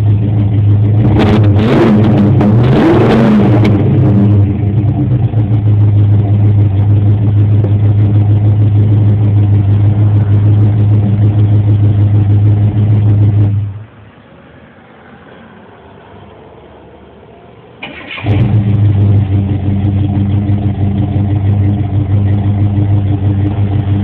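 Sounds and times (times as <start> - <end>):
car engine idling: 0.0 - 14.2, 16.1 - 24.0.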